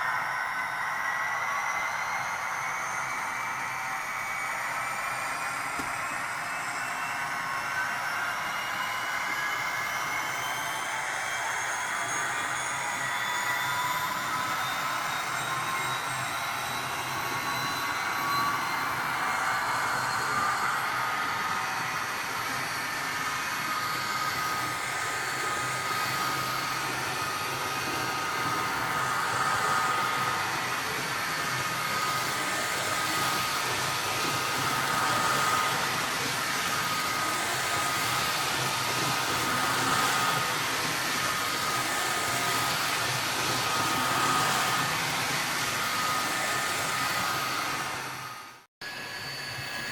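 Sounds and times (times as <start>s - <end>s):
small motor whine: 0.0s - 49.9s.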